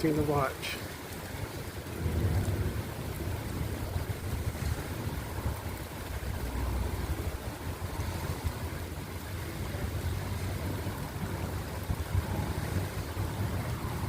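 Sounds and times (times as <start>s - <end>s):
rain hiss: 0.0s - 14.0s
low thunder rumble: 1.0s - 14.0s.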